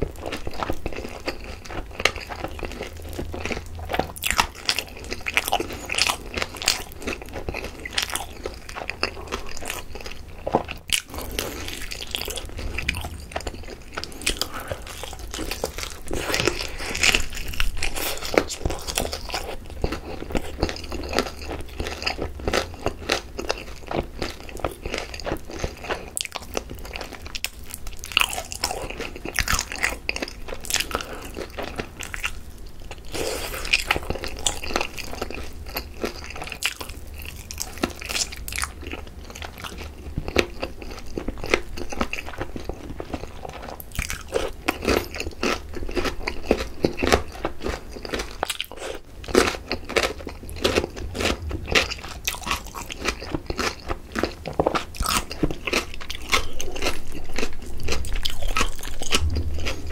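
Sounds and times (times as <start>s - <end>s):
crisp crunches of fried coating: 0.0s - 59.8s
biting and chewing fried chicken: 0.0s - 59.9s.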